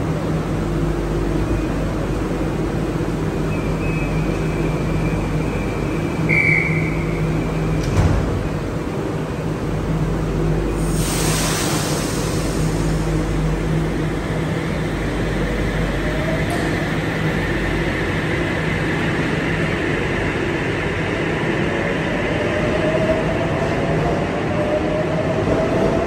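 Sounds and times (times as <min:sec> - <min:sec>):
train cars rumbling: 0:00.0 - 0:26.0.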